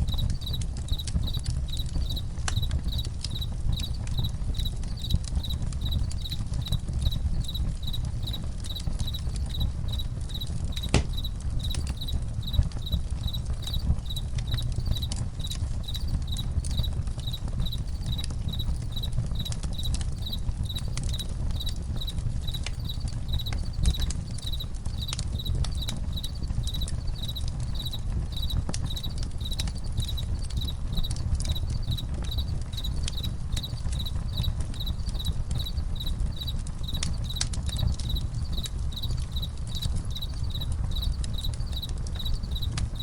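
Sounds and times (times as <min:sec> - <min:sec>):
campfire crackling and popping: 0:00.0 - 0:43.0
crickets chirping: 0:00.0 - 0:43.0.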